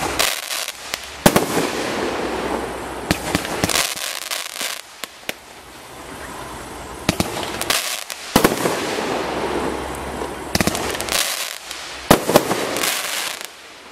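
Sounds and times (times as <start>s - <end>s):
firework shots bursting: 0.0s - 6.4s, 7.0s - 13.9s
steady hiss of burning fireworks: 0.0s - 13.9s.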